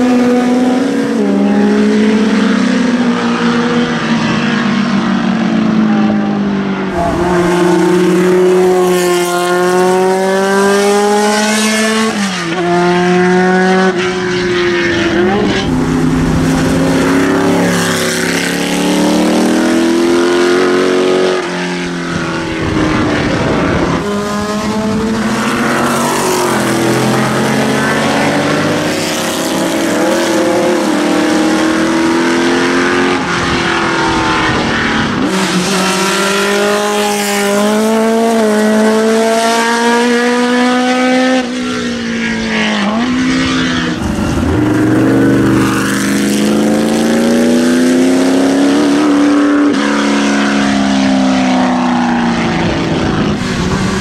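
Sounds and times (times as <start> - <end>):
racing car engines at full throttle: 0.0 - 54.0.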